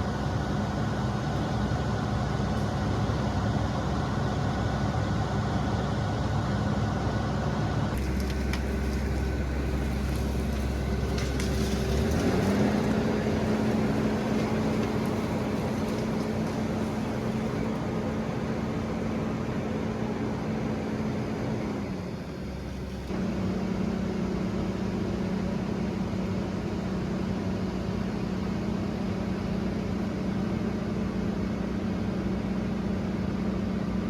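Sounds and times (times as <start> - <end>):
diesel engine of heavy machinery: 0.0 - 34.0.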